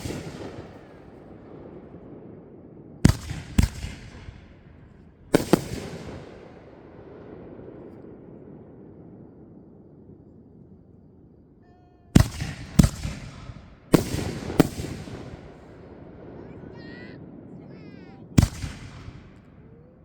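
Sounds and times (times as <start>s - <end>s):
fireworks bangs with rumbling echo: 0.0s - 10.7s, 12.1s - 20.0s.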